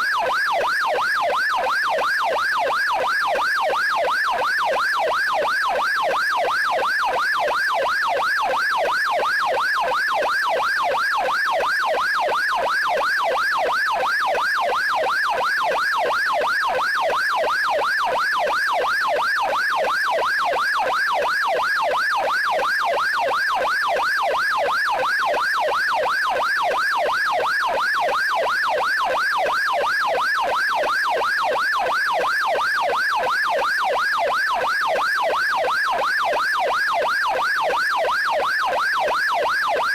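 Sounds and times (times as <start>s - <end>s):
police siren yelp: 0.0s - 39.9s.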